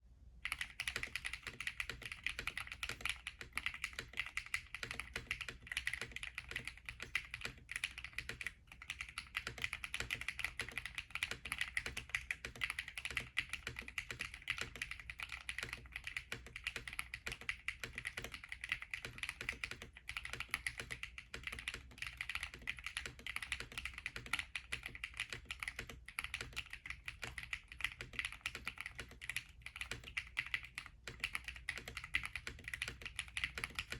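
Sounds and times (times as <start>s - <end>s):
fast typing on mechanical keyboard: 0.4s - 33.9s.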